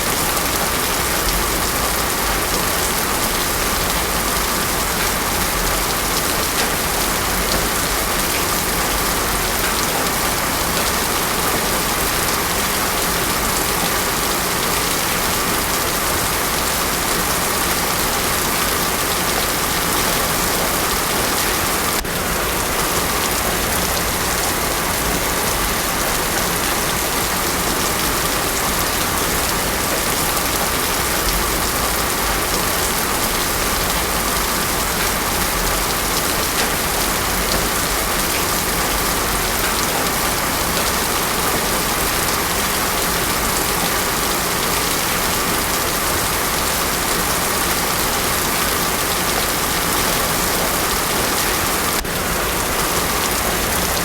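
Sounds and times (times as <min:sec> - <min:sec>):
heavy rain on a road: 0:00.0 - 0:54.0.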